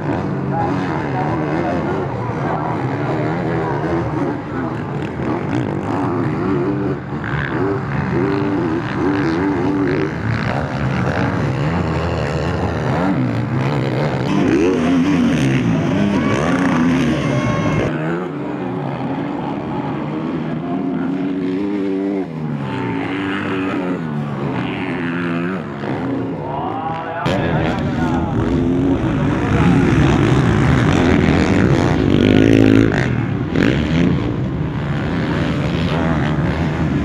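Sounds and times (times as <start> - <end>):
motocross engines revving: 0.0 - 37.0.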